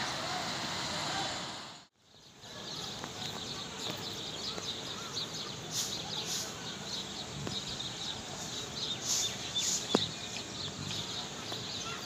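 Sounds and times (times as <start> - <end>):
outdoor background hiss: 0.0 - 12.0
small birds chirping: 2.0 - 12.0.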